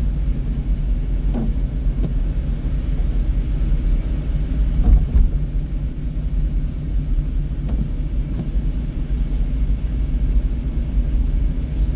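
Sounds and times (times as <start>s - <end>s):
car driving rumble: 0.0s - 11.9s.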